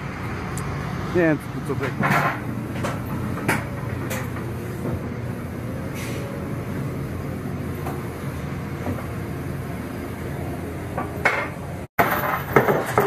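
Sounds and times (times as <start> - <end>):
forklift engine hum: 0.0 - 11.9.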